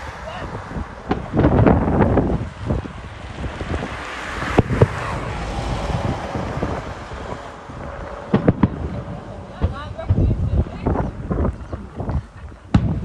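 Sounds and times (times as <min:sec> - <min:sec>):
distant fireworks bangs: 0:00.0 - 0:13.0
wind noise on microphone: 0:00.0 - 0:13.0.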